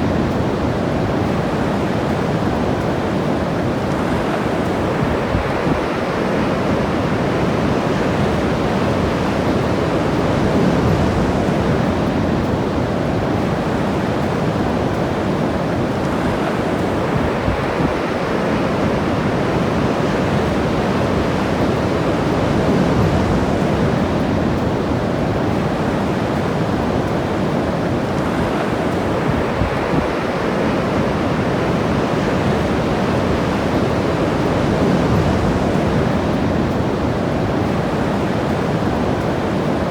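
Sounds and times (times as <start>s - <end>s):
ocean waves breaking: 0.0s - 39.9s
wind on microphone: 0.0s - 39.9s.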